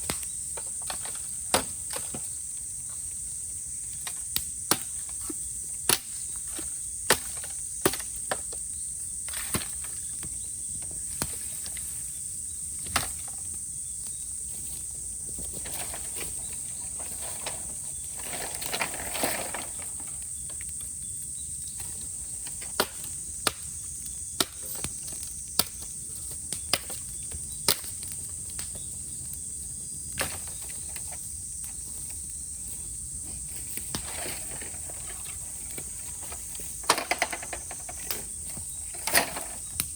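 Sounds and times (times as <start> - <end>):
bamboo crackling in fire: 0.0 - 39.9
cicadas chorus: 0.0 - 39.9.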